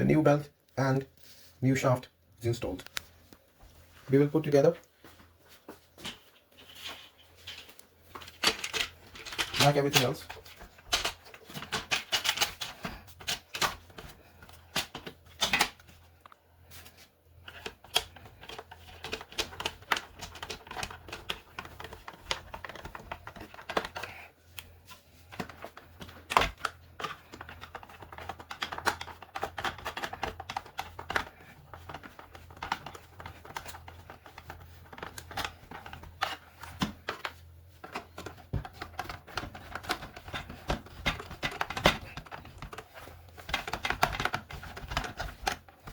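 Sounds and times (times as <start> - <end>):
plastic parts and tools clicking: 6.0 - 16.4, 17.4 - 45.9.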